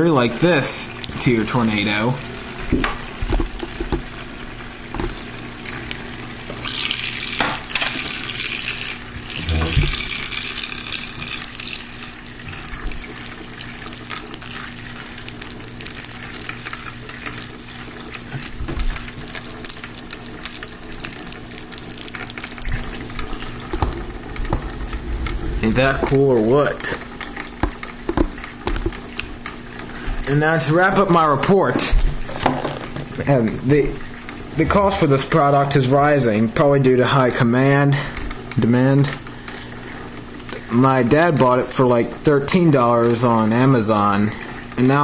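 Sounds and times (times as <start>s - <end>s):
motor hum: 0.0s - 45.0s.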